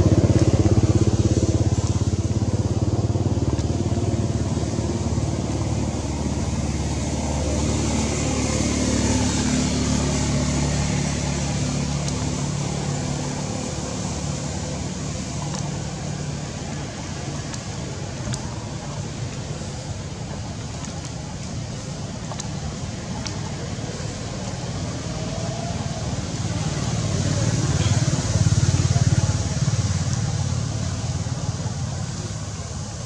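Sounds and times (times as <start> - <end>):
engine running with regular pulse: 0.0 - 33.0.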